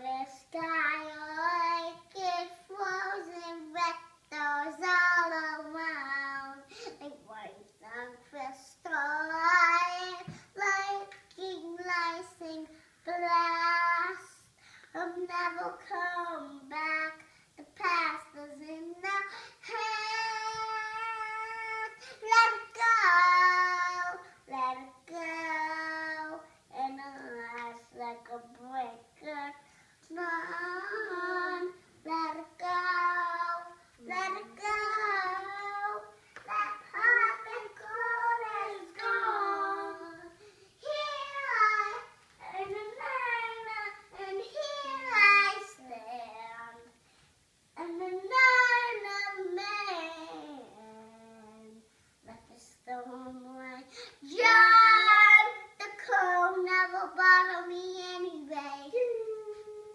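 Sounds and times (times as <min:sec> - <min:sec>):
child singing unaccompanied: 0:00.0 - 0:47.0, 0:47.7 - 0:59.9.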